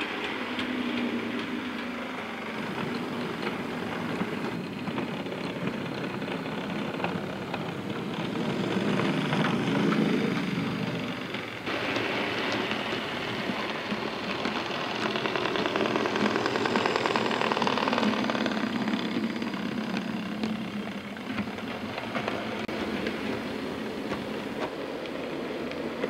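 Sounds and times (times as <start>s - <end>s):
model train motor whirring: 0.0s - 26.0s
wheels clicking on track: 0.0s - 26.0s.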